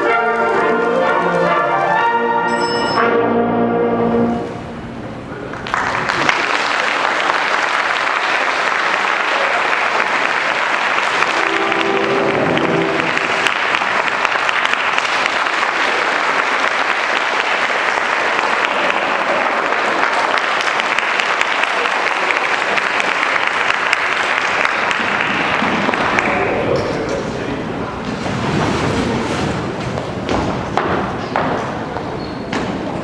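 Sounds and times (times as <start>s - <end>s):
audience applause: 4.9s - 33.0s.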